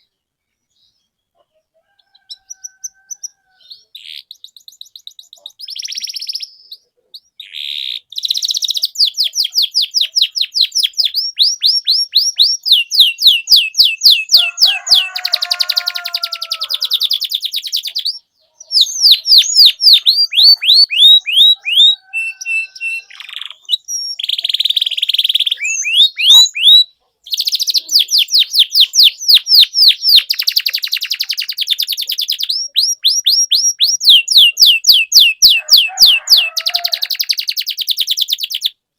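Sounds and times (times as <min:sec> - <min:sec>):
canary singing fast trills: 0:00.0 - 0:38.8.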